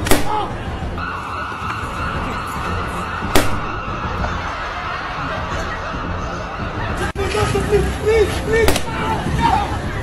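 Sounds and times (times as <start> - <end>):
crowd noise: 0.0 - 10.0.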